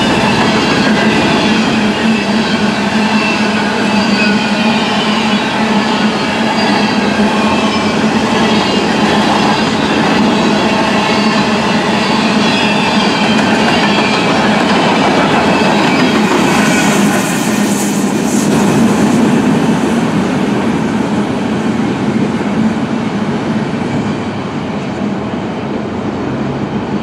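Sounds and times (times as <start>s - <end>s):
freight train wheels clattering: 0.0s - 22.8s.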